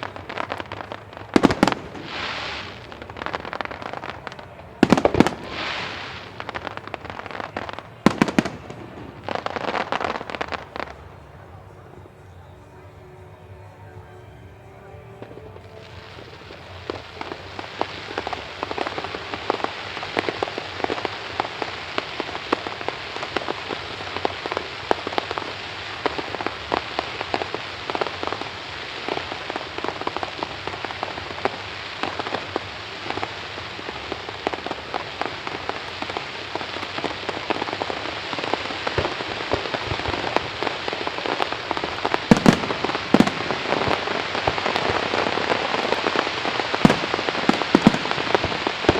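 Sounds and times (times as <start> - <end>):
heavier firework bursts: 0.0 - 12.0, 14.9 - 48.9
fireworks crackling: 0.0 - 48.9.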